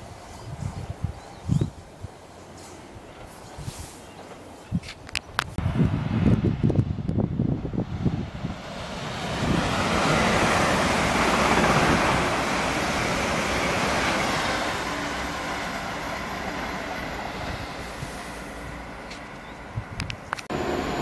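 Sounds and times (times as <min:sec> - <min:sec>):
passenger train passing at speed: 0:00.0 - 0:04.7, 0:05.6 - 0:21.0.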